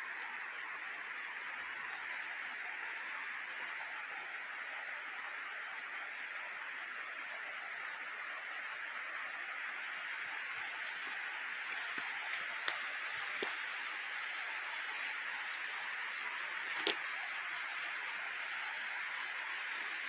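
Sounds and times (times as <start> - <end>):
high-pitched insect chorus: 0.0 - 20.0
running water rushing: 0.0 - 20.0.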